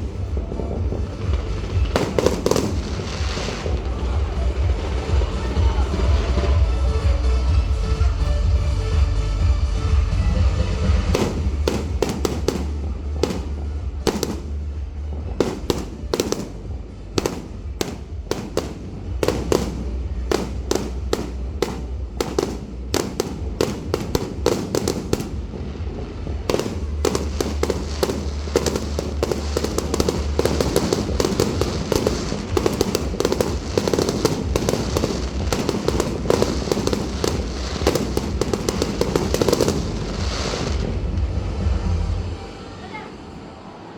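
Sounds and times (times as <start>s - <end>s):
fireworks bangs and crackles: 0.0s - 42.6s
music playing: 0.0s - 43.9s.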